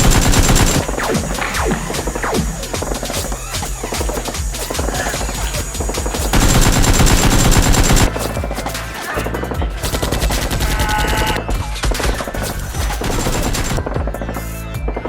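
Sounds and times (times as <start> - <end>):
machine gun bursts: 0.0 - 9.2, 9.8 - 13.8.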